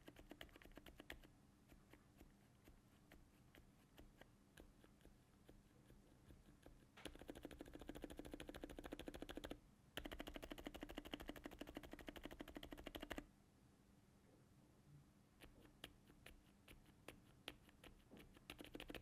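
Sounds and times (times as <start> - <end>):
muted keyboard typing: 0.0 - 5.6, 6.3 - 13.2, 15.4 - 19.0.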